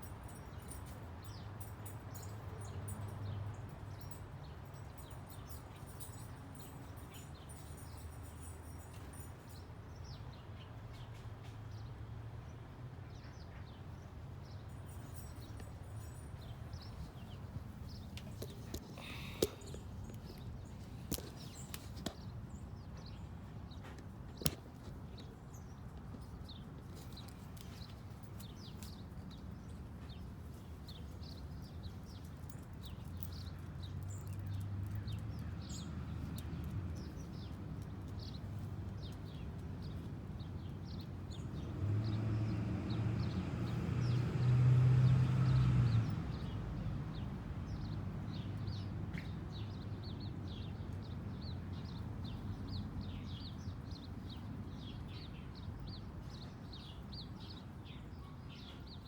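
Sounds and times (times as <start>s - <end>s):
small birds chirping: 0.0s - 12.0s, 13.0s - 59.0s.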